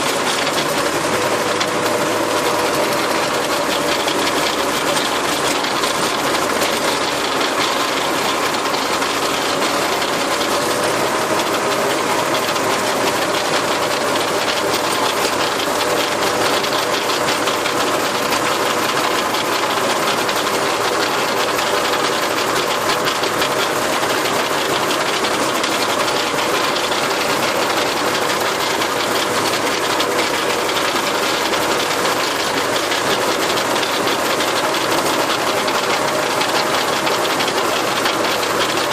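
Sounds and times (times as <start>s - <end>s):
rattling mechanical knocking: 0.0s - 38.9s
tractor engine running: 0.0s - 38.9s.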